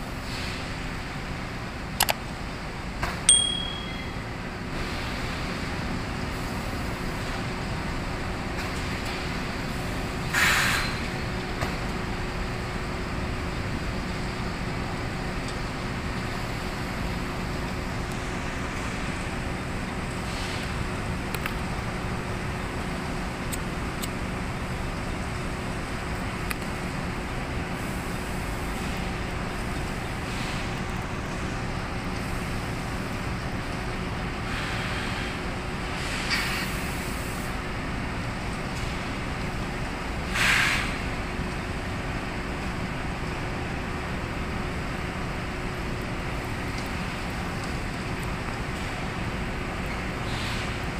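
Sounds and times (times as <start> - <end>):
conveyor machinery drone: 0.0 - 50.9.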